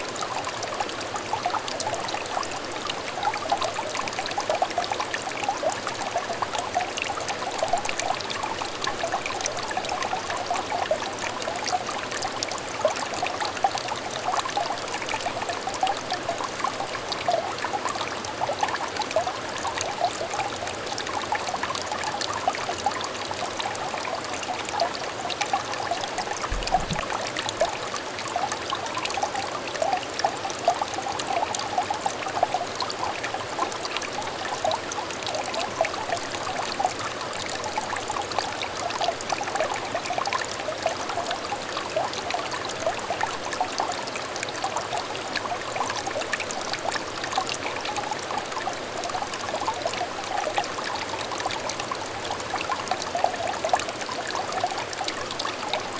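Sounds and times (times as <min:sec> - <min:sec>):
stream trickling and babbling: 0:00.0 - 0:55.9.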